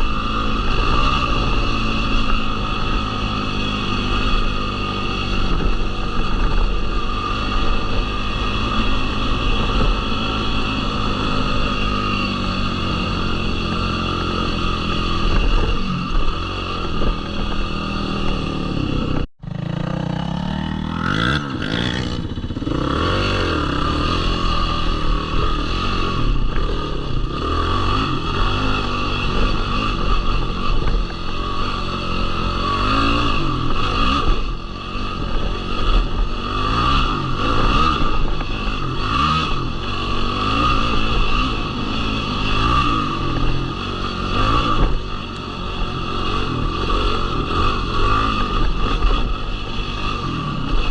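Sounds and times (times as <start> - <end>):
quad engine revving: 0.0 - 50.9.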